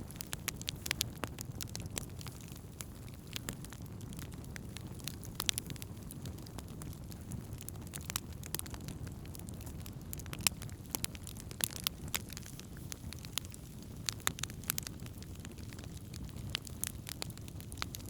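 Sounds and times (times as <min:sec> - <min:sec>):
campfire crackling and popping: 0:00.0 - 0:18.0
low fire rumble: 0:00.0 - 0:18.0.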